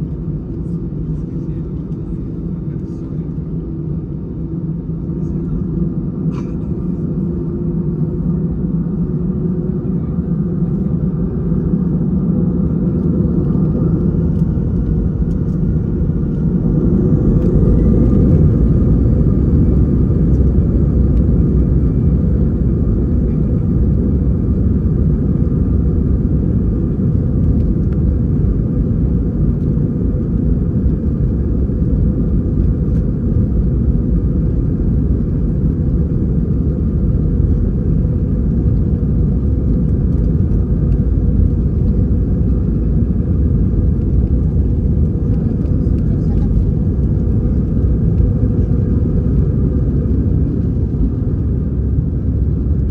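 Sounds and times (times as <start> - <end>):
jet engines whining and rumbling: 0.0 - 52.9.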